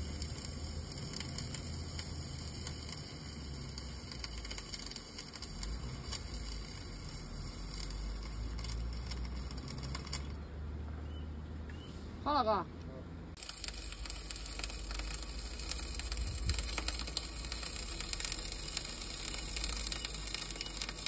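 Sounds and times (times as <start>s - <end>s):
arc welding crackle: 0.0s - 10.4s, 13.4s - 21.0s.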